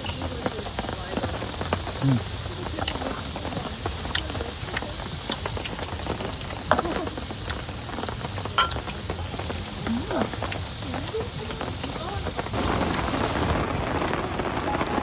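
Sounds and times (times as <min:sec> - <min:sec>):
raindrops tapping: 0:00.0 - 0:15.0
steady rain hiss: 0:00.0 - 0:15.0.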